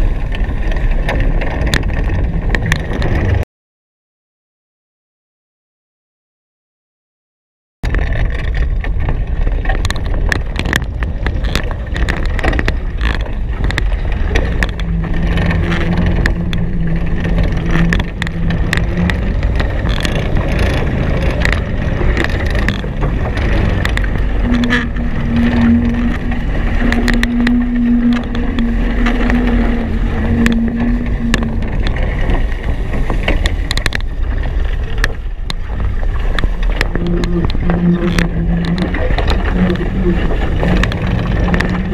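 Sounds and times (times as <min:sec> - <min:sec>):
water rushing past hulls: 0:00.0 - 0:03.4, 0:07.8 - 0:41.9
wind buffeting microphone: 0:00.0 - 0:03.4, 0:07.8 - 0:41.9
low steady hum: 0:07.9 - 0:41.9.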